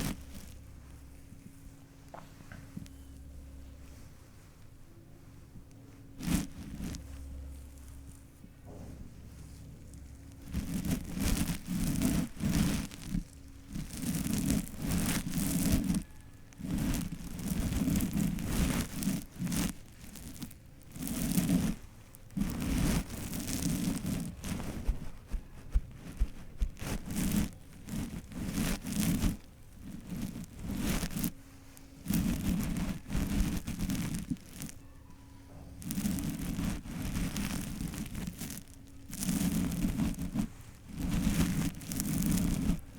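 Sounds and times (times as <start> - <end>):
brush strokes through hair: 0.0 - 42.9.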